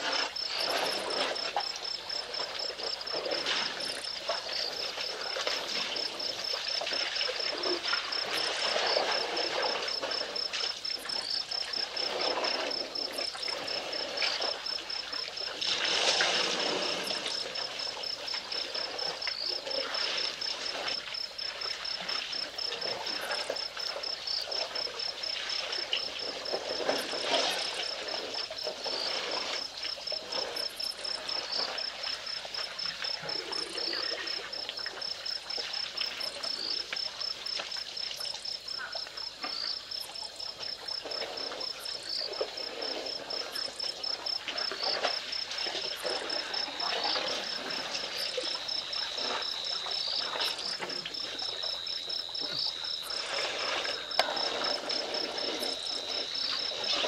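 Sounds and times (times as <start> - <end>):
cricket chirping: 0.0 - 57.0
water splashing and sloshing: 0.0 - 57.0.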